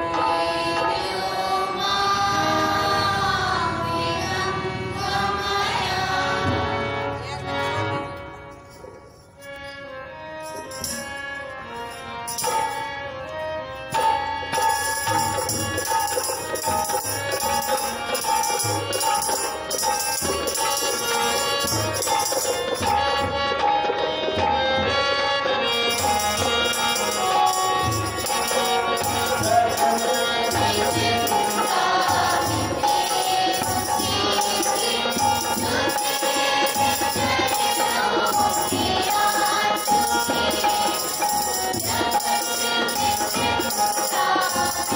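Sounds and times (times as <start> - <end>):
keyboard holding notes: 0.0 - 44.9
jingling percussion: 5.0 - 44.9.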